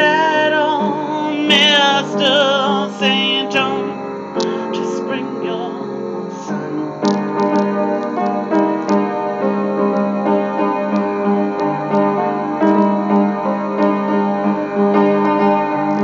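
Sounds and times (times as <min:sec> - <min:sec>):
piano playing chords and runs: 0:00.0 - 0:16.0.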